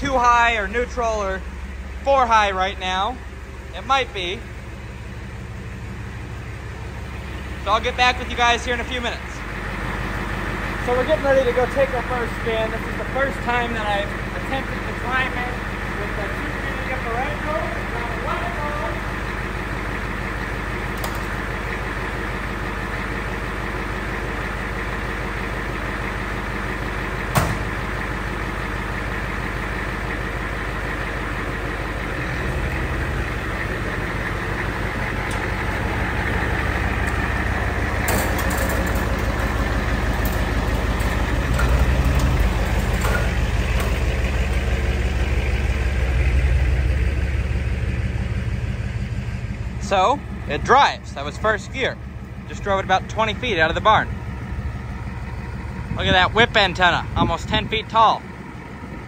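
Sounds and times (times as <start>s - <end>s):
truck driving off: 0.0s - 59.0s
truck engine idling: 0.0s - 59.0s.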